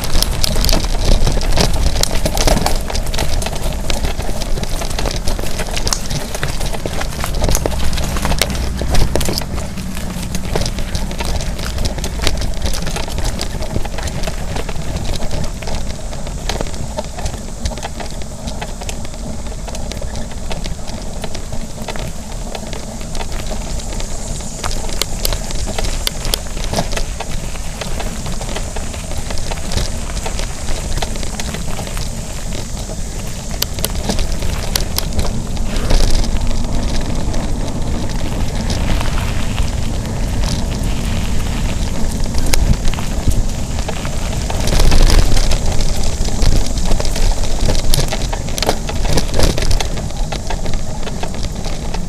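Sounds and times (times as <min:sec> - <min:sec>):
bike rattling over bumps: 0:00.0 - 0:52.0
bike tyres rumbling on dirt: 0:00.0 - 0:52.0.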